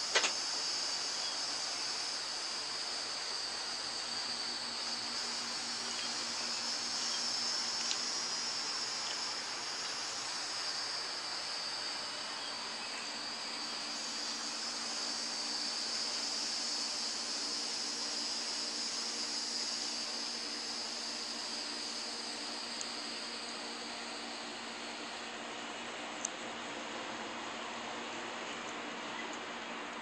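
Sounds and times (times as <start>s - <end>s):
insects chirring: 0.0s - 29.4s.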